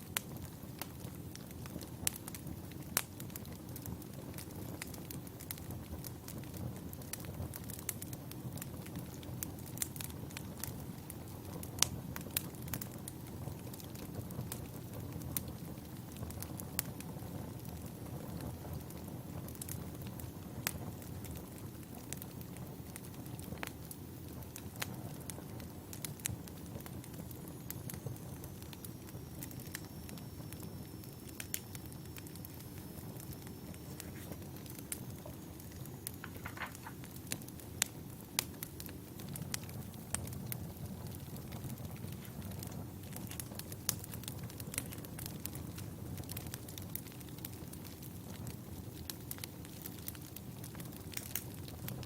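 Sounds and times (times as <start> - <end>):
campfire burning: 0.0 - 52.0
firewood crackling and popping: 0.0 - 52.0.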